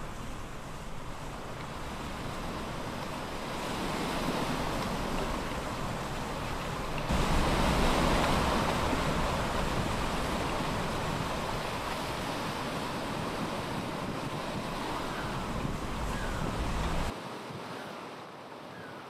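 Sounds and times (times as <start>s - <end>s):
ocean waves: 0.0s - 19.0s
wind: 0.0s - 19.0s.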